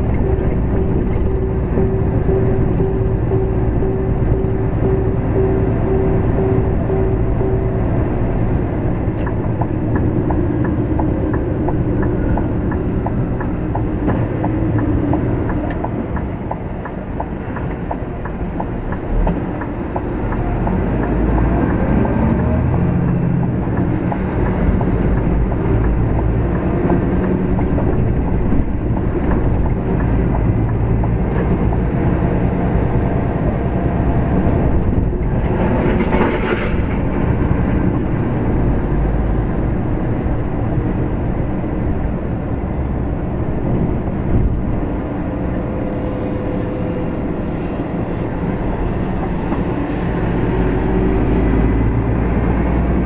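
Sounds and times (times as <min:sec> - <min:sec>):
truck diesel engine running: 0:00.0 - 0:53.0
tyre and cab rumble: 0:00.0 - 0:53.0.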